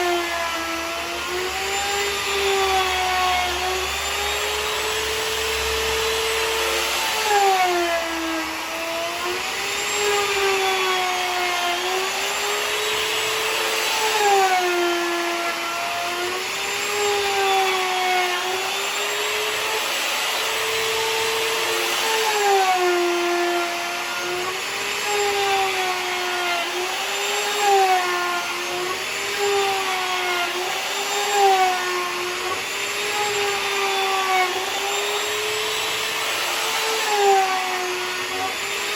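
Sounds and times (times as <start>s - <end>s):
milling tool motor whining: 0.0s - 38.9s.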